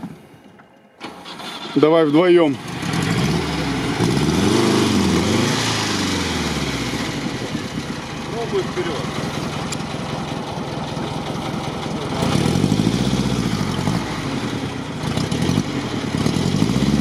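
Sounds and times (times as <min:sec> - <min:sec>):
car engine revving under load: 0:01.0 - 0:17.0.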